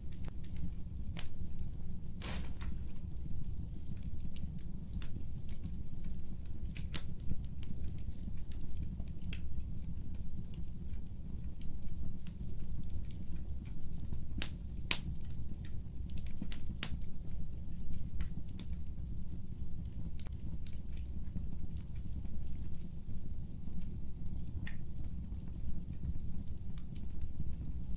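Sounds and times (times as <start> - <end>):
fireplace fire crackling: 0.0 - 27.9.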